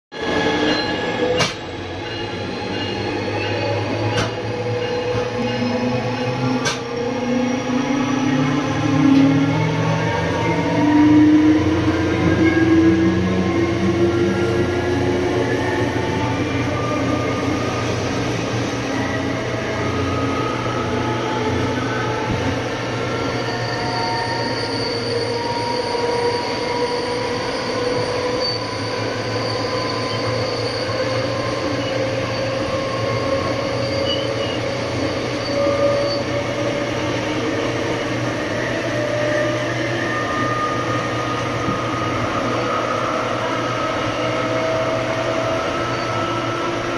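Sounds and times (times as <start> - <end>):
diesel locomotive engine under load: 0.2 - 46.9.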